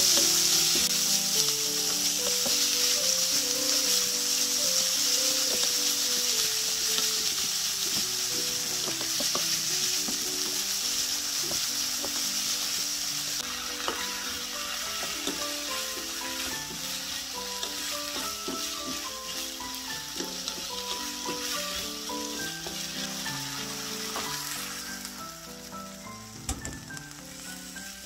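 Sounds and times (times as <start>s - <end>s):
meat and vegetables sizzling in pan: 0.0s - 28.0s
soft background music: 0.0s - 28.0s.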